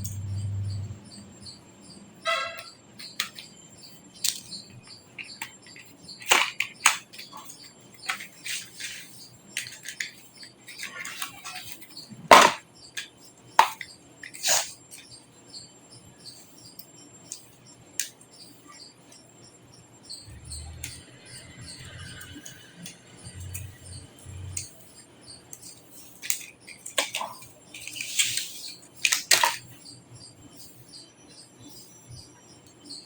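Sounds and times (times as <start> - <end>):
computer parts clicking and tapping: 1.8 - 15.2, 16.2 - 33.0.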